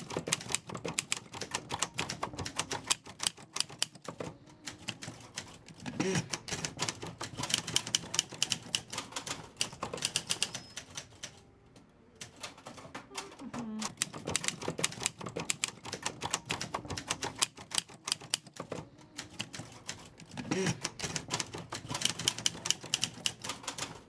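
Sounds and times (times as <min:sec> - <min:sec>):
manual typewriter clattering: 0:00.0 - 0:11.4, 0:12.2 - 0:24.0.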